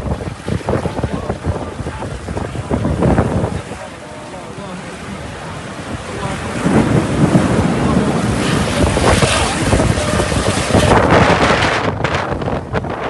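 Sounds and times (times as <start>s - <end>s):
storm wind buffeting microphone: 0.0s - 13.0s.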